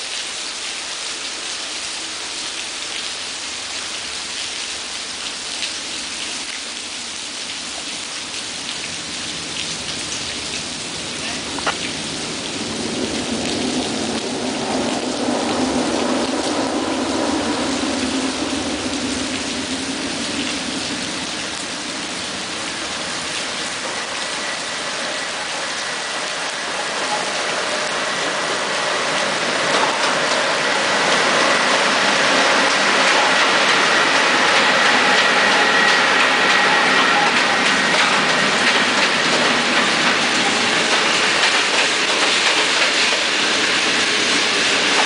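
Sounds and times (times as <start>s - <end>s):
steady rain: 0.0s - 45.0s
train approaching: 8.5s - 45.0s.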